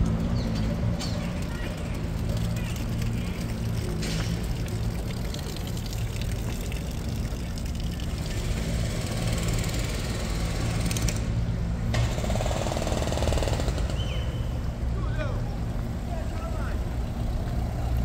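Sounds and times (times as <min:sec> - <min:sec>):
traffic engine rumble: 0:00.0 - 0:18.0.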